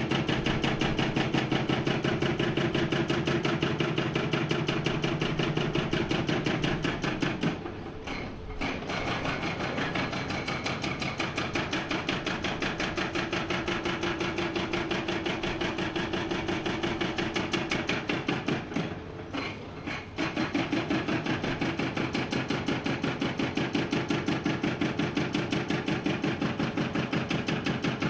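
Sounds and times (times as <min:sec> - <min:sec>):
hydraulic breaker hammering rock: 0:00.0 - 0:28.0.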